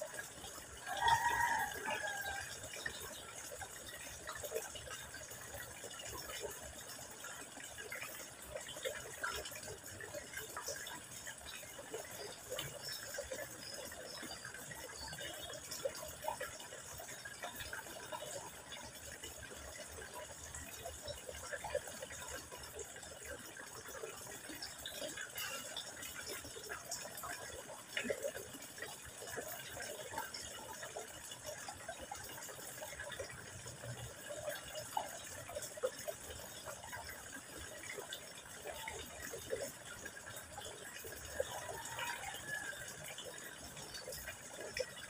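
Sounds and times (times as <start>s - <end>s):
water splashing into pond: 0.0s - 45.0s.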